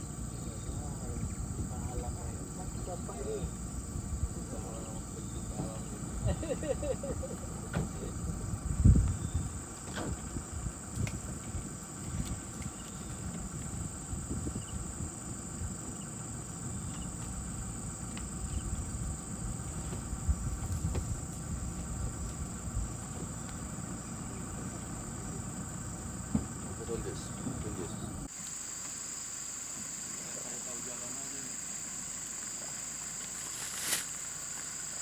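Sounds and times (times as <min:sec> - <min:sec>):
insect chorus drone: 0:00.0 - 0:35.0.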